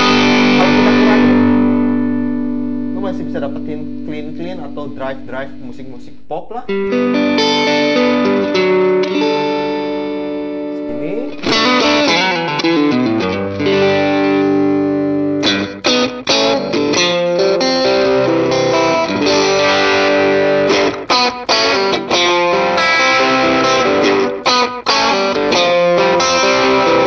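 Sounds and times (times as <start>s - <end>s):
choked guitar strums: 0.0s - 27.0s
overdriven electric guitar strumming: 0.0s - 27.0s.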